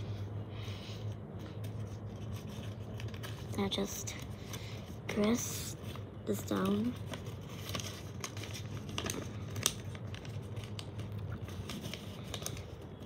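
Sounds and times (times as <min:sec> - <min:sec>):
low steady hum: 0:00.0 - 0:13.0
paper crinkling while folded: 0:00.9 - 0:13.0.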